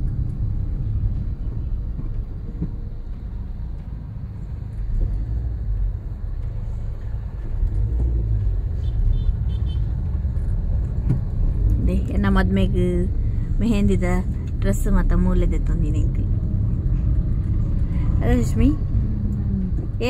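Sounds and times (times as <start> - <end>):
car driving slowly from inside: 0.0 - 20.0.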